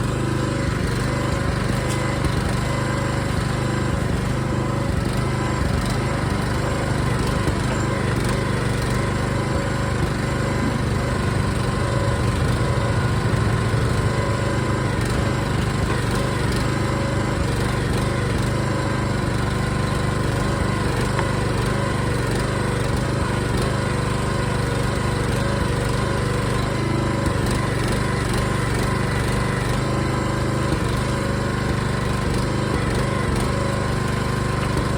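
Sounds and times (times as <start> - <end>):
small engine running steadily: 0.0 - 34.9.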